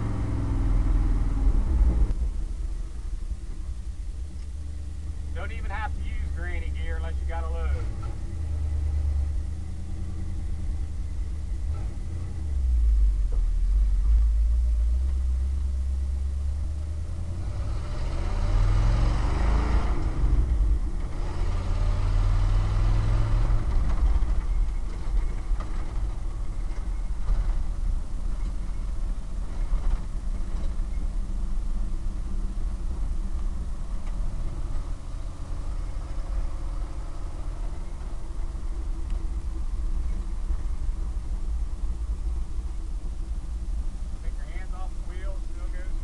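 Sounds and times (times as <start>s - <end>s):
truck engine droning while driving: 0.0s - 46.0s.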